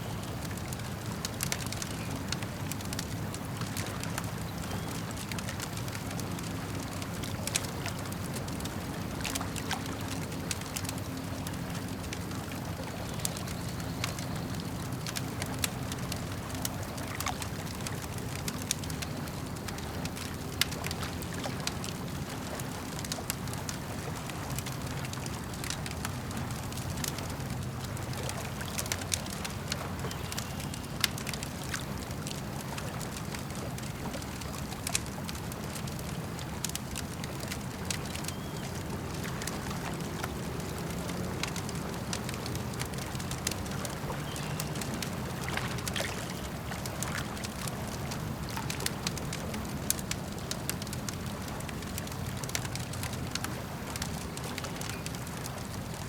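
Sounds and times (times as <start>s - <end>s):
campfire crackling and popping: 0.0s - 56.0s
lake water gurgling: 0.0s - 56.0s.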